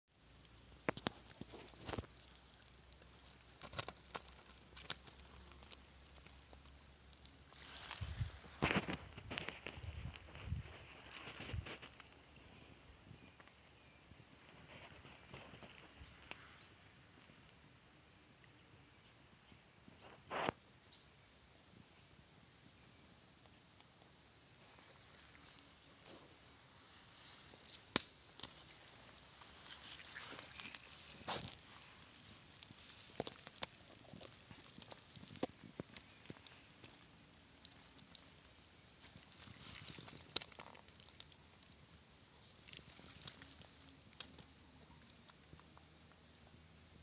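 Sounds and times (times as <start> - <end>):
insects chirring: 0.1 - 47.0.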